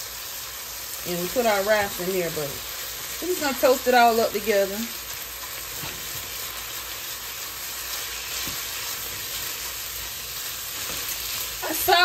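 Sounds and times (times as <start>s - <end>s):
meat and rice sizzling in a pot: 0.0s - 12.0s.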